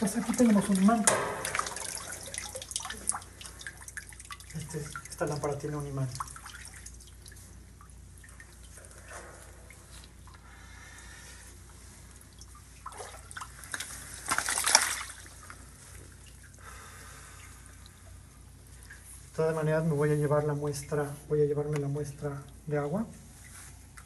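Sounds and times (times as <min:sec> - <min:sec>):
water trickling and dripping: 0:00.0 - 0:24.0.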